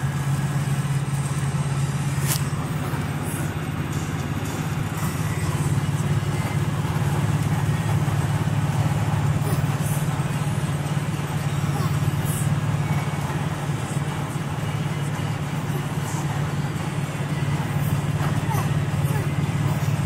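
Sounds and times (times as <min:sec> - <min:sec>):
car cabin road drone: 0:00.0 - 0:20.0
road hiss: 0:00.0 - 0:20.0.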